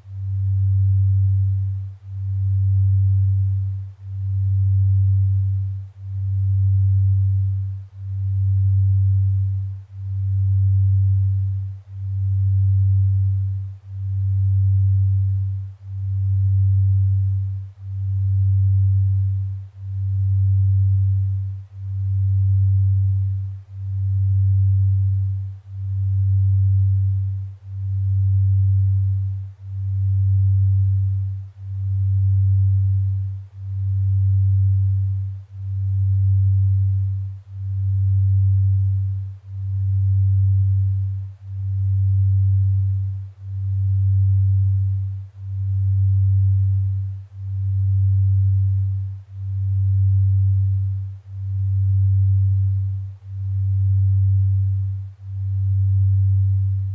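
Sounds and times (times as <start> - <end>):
low sine tone: 0.0 - 56.9.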